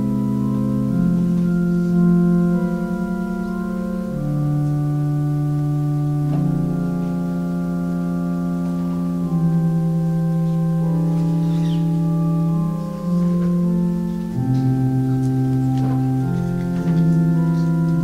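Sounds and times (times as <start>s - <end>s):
organ playing slow chords: 0.0s - 18.0s.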